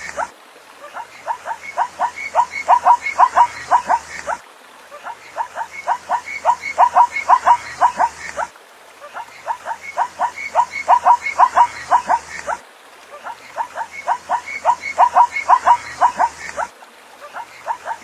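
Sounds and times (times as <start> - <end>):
zebra barking yelps: 0.0 - 4.4, 5.0 - 8.5, 9.1 - 12.6, 13.2 - 18.0.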